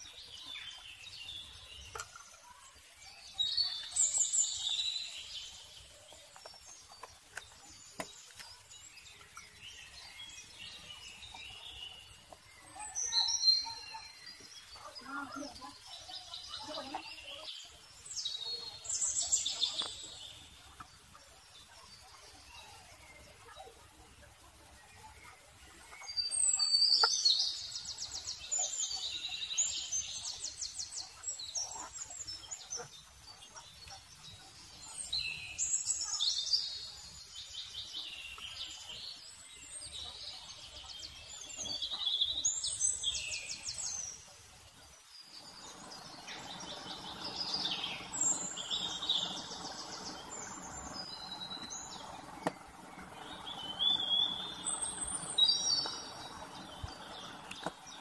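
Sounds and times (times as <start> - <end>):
small birds chirping: 0.0 - 58.0
steady hiss: 0.0 - 58.0.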